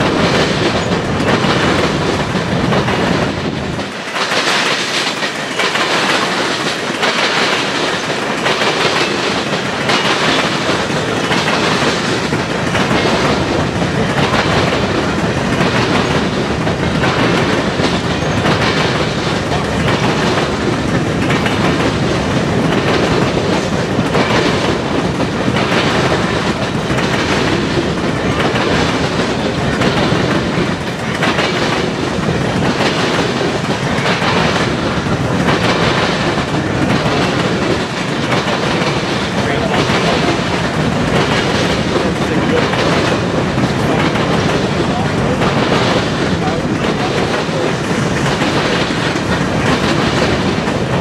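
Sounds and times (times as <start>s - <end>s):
freight train rumbling: 0.0s - 51.0s
wheels clickety-clack on rail joints: 0.0s - 51.0s.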